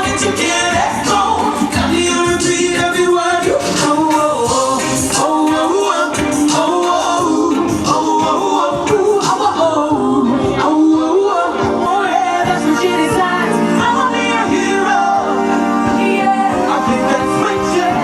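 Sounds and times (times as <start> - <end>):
live band music: 0.0 - 18.0
person singing: 0.0 - 18.0.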